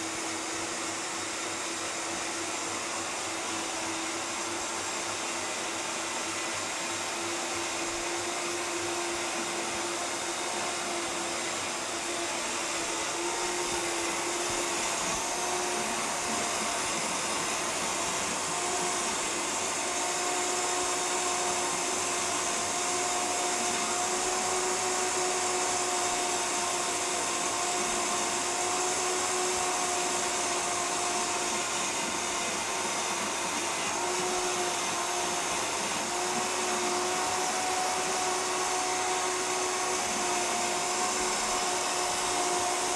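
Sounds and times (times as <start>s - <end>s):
blender motor whining: 0.0s - 42.9s.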